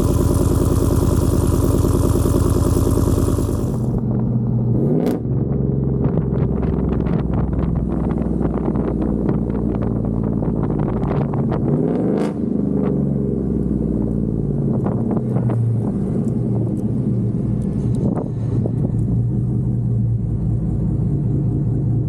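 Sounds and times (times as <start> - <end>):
truck engine exhaust rumbling: 0.0 - 22.0.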